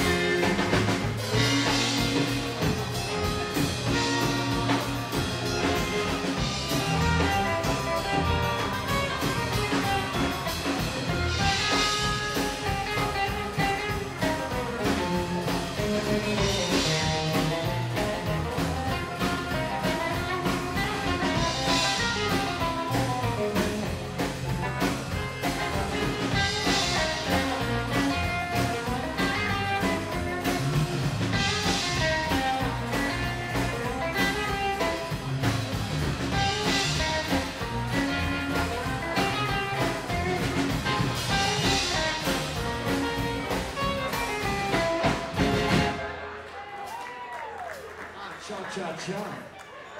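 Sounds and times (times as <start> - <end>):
upright double bass: 0.0 - 46.1
drum kit beat: 0.0 - 47.0.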